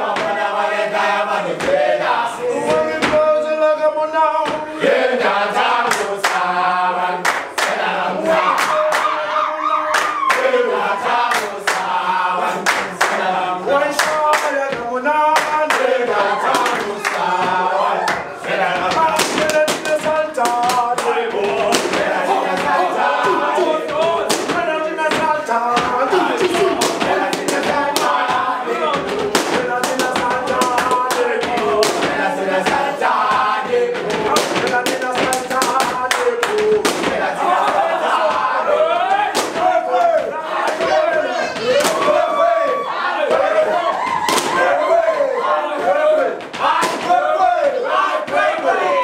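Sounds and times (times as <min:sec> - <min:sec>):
gumboot dance slaps and stamps: 0:00.0 - 0:03.7, 0:04.3 - 0:04.7, 0:05.3 - 0:09.1, 0:12.6 - 0:45.2, 0:45.8 - 0:49.0
young voices singing in chorus: 0:00.0 - 0:49.0.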